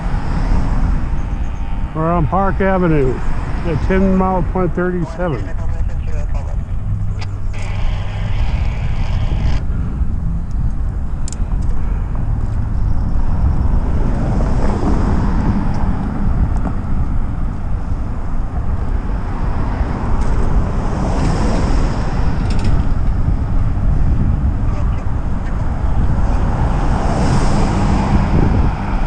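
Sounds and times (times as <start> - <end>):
car passing: 0.0 - 29.0
wind rumbling on microphone: 0.0 - 29.0.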